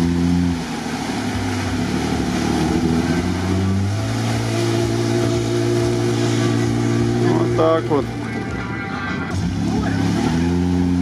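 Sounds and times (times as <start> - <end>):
engine under heavy load: 0.0 - 11.0
mud and water spraying: 0.0 - 11.0.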